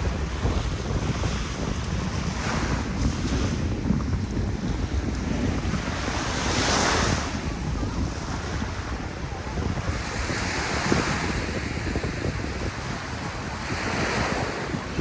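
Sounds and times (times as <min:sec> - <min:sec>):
sea waves washing on beach: 0:00.0 - 0:15.0
wind buffeting microphone: 0:00.0 - 0:15.0.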